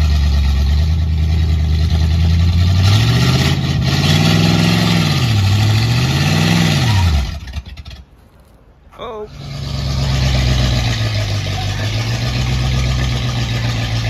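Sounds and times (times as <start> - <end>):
truck engine idling and revving: 0.0 - 14.0.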